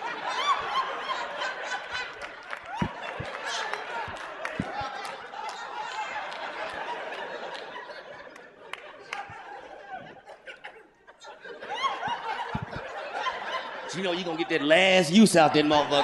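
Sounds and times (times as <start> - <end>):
audience laughing: 0.0 - 16.0.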